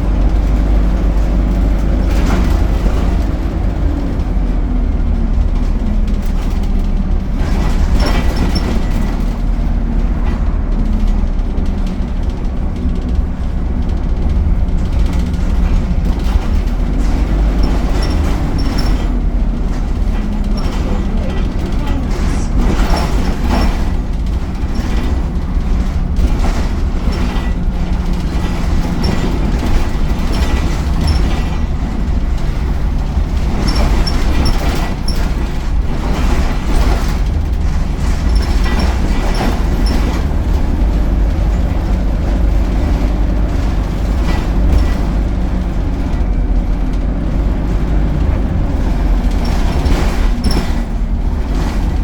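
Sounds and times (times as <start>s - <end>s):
bus body knocks and rattles: 0.0s - 52.0s
bus diesel engine: 0.0s - 52.0s
road noise rumble: 0.0s - 52.0s.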